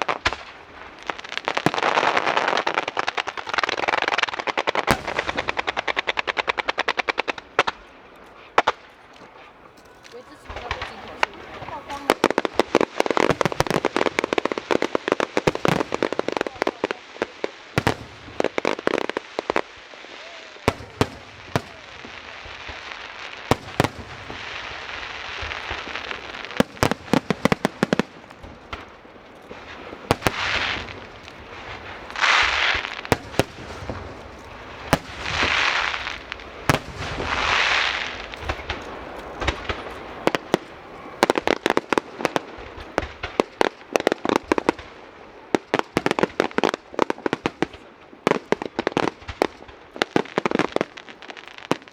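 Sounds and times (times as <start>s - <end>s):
fireworks bangs and crackles: 0.0s - 51.9s
fireworks hissing: 0.0s - 51.9s.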